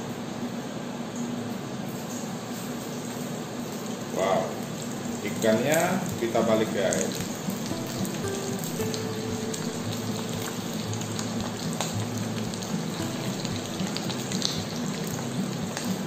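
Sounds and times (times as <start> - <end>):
fish deep-frying in oil: 1.4 - 16.0.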